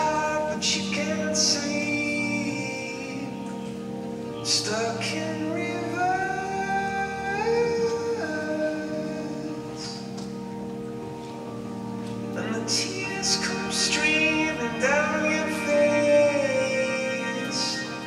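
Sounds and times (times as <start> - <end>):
song over sound system: 0.0 - 18.0.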